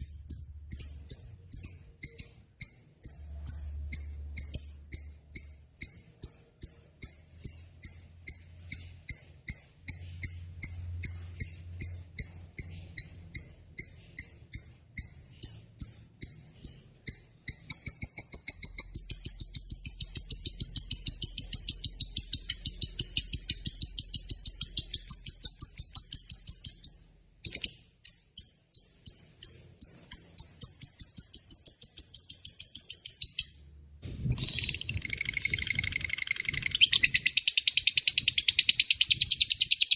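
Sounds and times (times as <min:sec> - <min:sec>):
lovebird chattering: 0:00.0 - 0:33.6, 0:34.2 - 0:39.9.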